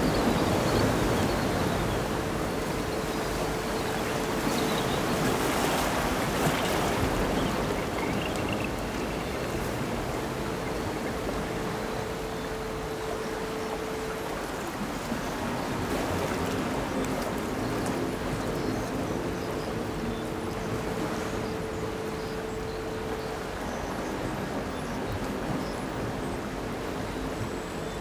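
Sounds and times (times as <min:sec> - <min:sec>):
surf-like noise wash: 0:00.0 - 0:28.0.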